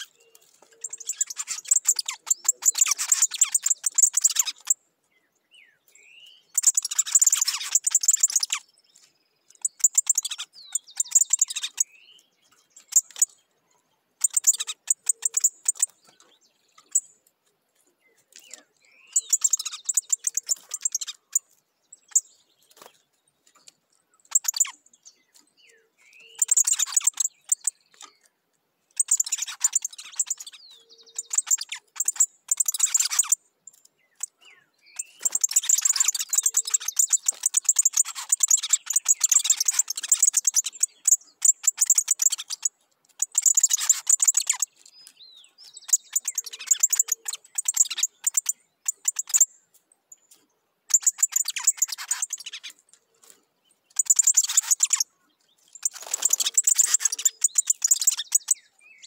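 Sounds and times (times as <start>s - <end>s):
bird high chattering song: 0.0s - 17.2s, 17.9s - 59.0s.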